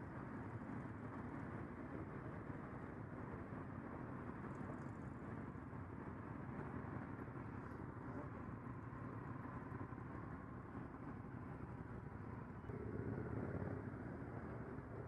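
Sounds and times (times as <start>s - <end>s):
motorcycle engines rumbling: 0.0s - 15.0s.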